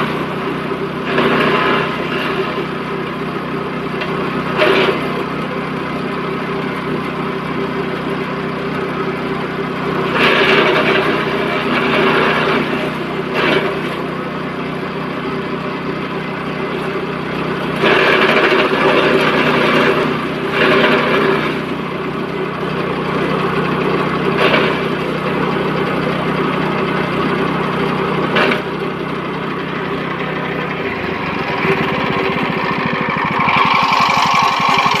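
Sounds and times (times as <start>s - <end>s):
chaff cutter engine running: 0.0s - 35.0s
grass being cut: 0.0s - 35.0s.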